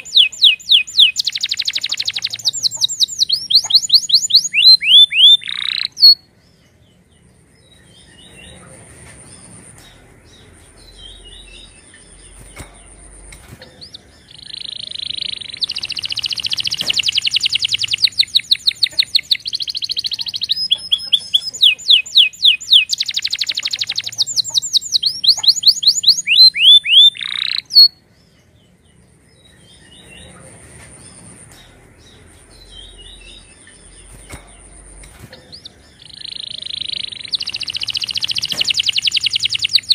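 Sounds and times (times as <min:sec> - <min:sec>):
canary singing trills: 0:00.0 - 0:39.9
quiet bird twittering: 0:00.0 - 0:39.9.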